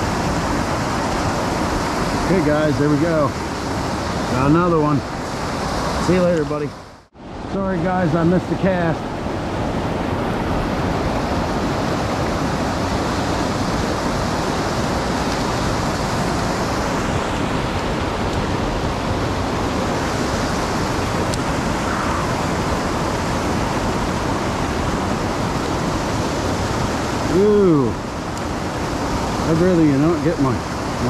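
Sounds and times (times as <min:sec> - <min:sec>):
creek water flowing: 0:00.0 - 0:31.0.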